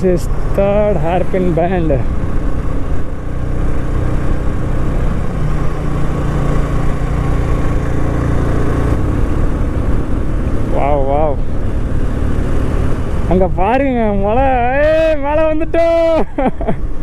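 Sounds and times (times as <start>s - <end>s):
motorcycle engine under load: 0.0s - 15.1s
steady rushing noise: 0.0s - 16.2s.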